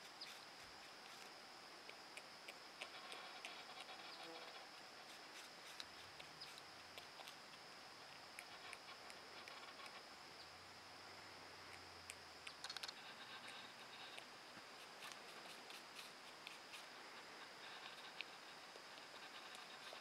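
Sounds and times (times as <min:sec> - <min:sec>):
porcupine chewing an apple: 0:00.0 - 0:10.1, 0:11.7 - 0:20.0.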